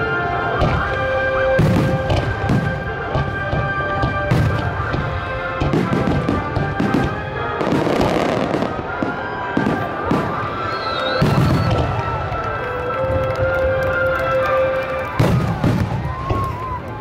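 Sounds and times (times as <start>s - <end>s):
fireworks bursting: 0.4s - 13.4s, 14.8s - 17.0s.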